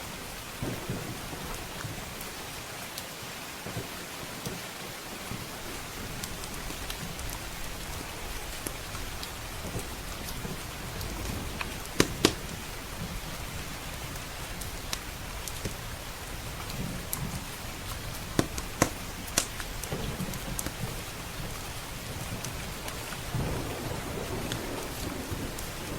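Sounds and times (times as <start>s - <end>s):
heavy rain: 0.0s - 25.9s
wood fire crackling: 0.0s - 25.9s
fire popping: 0.1s - 25.9s.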